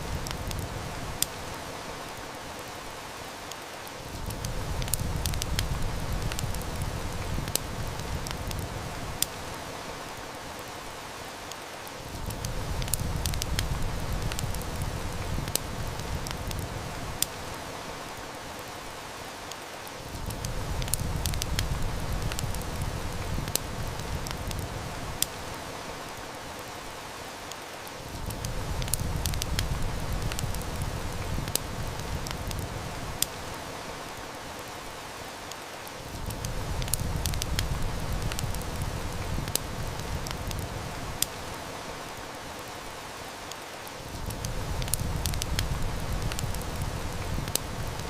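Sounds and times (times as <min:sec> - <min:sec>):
heavy rain hissing: 0:00.0 - 0:48.0
wood fire crackling: 0:00.0 - 0:48.0.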